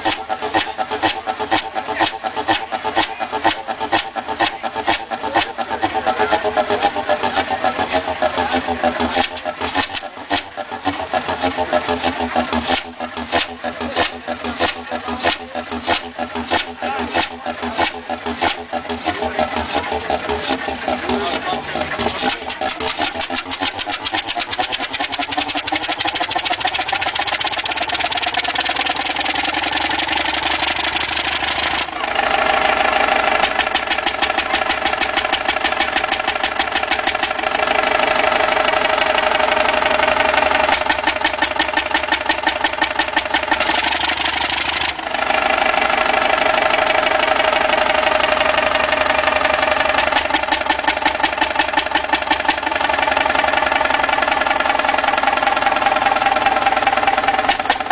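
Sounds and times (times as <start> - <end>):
old engine running: 0.0 - 57.9.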